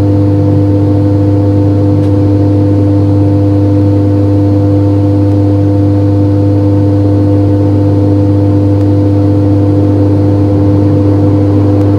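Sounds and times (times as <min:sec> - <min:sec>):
steady multi-tone hum: 0:00.0 - 0:11.9.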